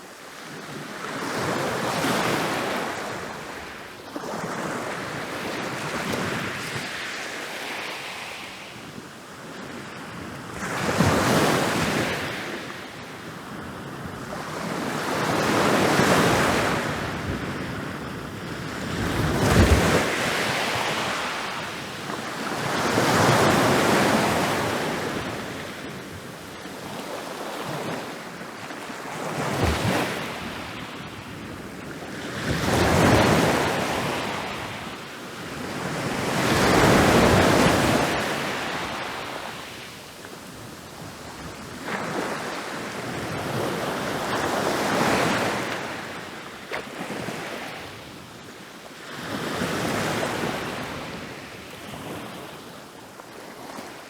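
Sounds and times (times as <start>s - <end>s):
ocean waves breaking on beach: 0.0s - 54.0s
wind: 0.0s - 54.0s.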